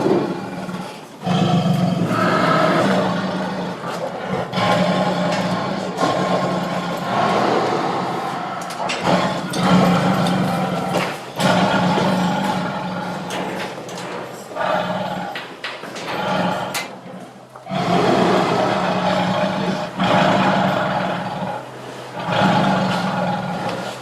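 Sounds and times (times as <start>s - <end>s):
tiger roaring and growling: 0.0s - 24.0s.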